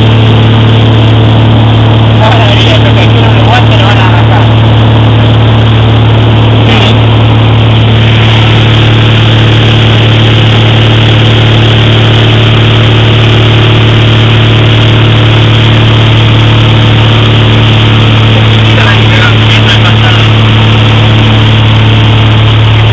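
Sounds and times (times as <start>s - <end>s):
light aircraft engine droning: 0.0s - 22.9s.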